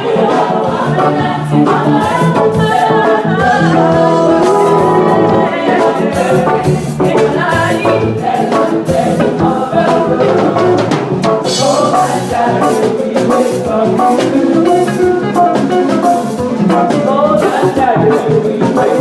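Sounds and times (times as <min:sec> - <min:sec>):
church choir singing: 0:00.0 - 0:19.0
drum kit and percussion beat: 0:00.0 - 0:19.0.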